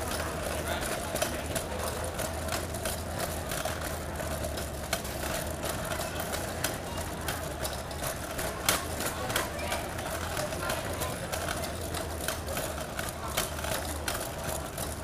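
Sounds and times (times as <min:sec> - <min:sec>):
traffic and idling engines hum: 0:00.0 - 0:15.0.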